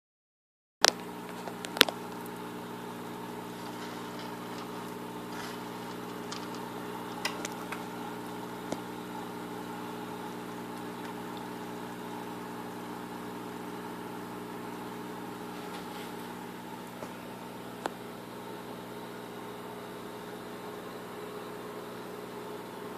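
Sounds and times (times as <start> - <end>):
aquarium pump humming: 0.8 - 22.9.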